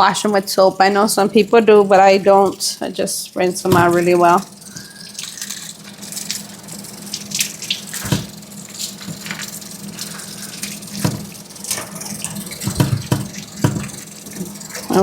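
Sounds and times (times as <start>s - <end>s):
steady low hum: 0.0s - 15.0s
water running from tap into sink: 0.0s - 15.0s.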